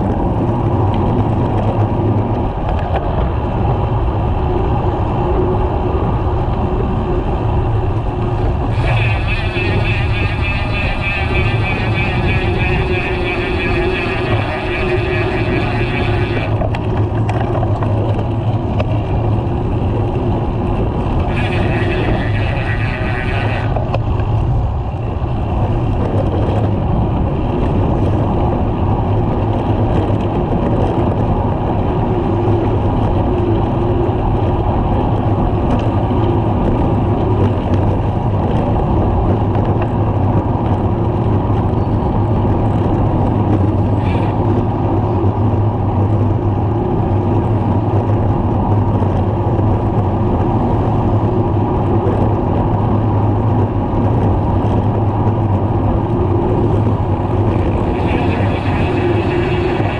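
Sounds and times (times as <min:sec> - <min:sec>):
cars in traffic: 0:00.0 - 0:59.9
road noise: 0:00.0 - 0:59.9
wind rushing on microphone: 0:00.0 - 0:59.9.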